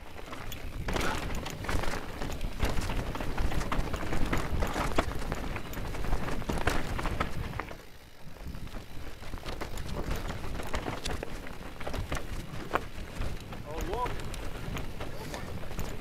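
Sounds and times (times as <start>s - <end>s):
bike clicks and knocks: 0.0s - 16.0s
bike tyres rattling over stones: 0.0s - 16.0s
wind rumble on microphone: 0.0s - 16.0s.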